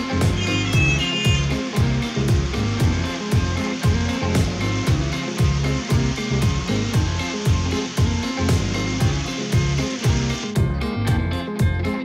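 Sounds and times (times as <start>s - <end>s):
low drum beat: 0.0s - 11.8s
guitar music: 0.0s - 12.0s.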